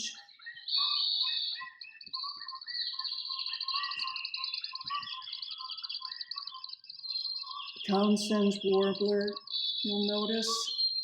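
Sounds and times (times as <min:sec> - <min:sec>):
chirping bird song: 0:00.0 - 0:11.0.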